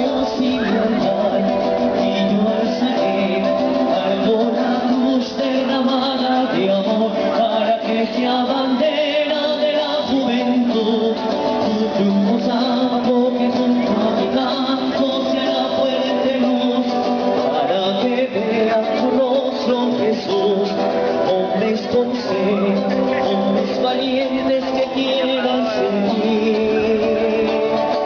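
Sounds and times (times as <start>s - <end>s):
group of people singing: 0.0s - 28.0s.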